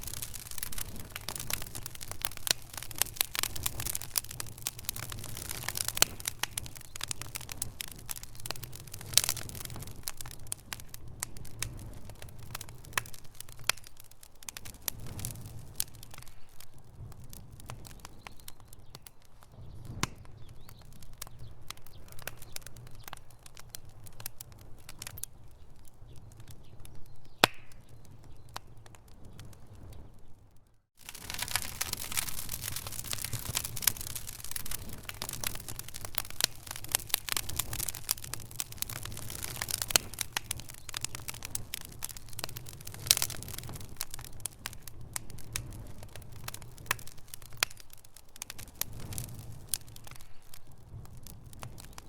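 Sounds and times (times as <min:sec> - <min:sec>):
campfire crackling: 0:00.0 - 0:52.0.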